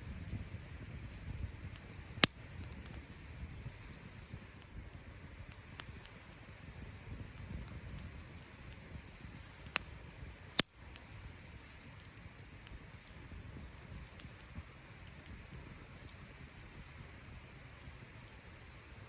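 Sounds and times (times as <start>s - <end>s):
campfire crackling: 0.0s - 19.0s
sharp fire pops: 0.0s - 19.0s.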